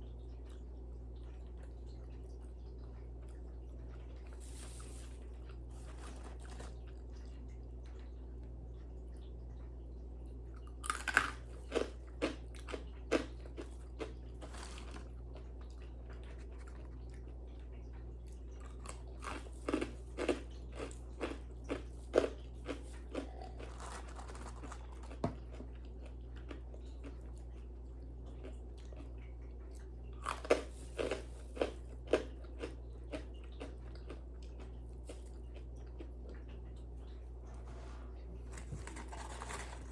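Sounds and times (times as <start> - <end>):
person chewing crunchy food: 0.0 - 9.2, 10.5 - 39.9
steady low hum: 0.0 - 39.9.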